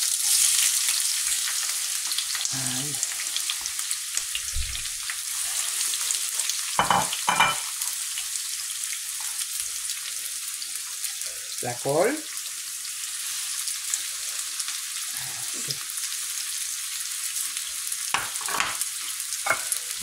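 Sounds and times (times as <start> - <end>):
onions sizzling in oil: 0.0 - 20.0.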